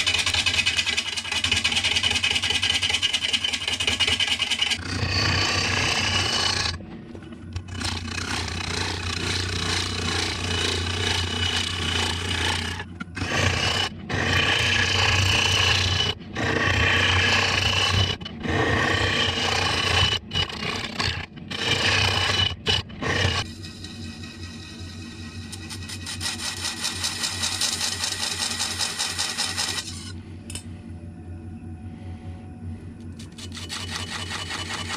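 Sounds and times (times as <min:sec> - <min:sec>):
gouge scraping spinning wood: 0:00.0 - 0:30.1, 0:33.2 - 0:34.9
lathe motor hum: 0:00.0 - 0:30.1.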